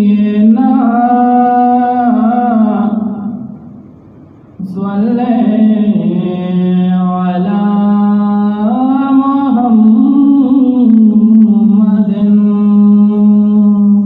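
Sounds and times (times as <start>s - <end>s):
man singing unaccompanied: 0.0s - 3.7s, 4.6s - 14.0s.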